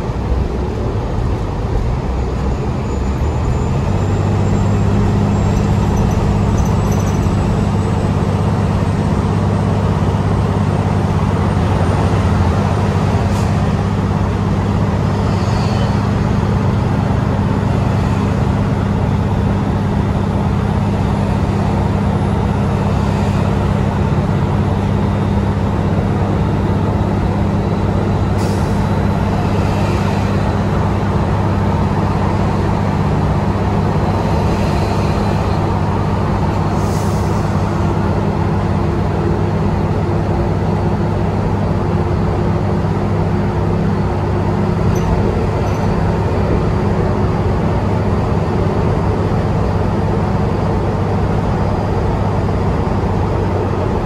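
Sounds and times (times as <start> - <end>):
bus drivetrain low hum: 0.0 - 54.0
tyre and road noise: 0.0 - 54.0.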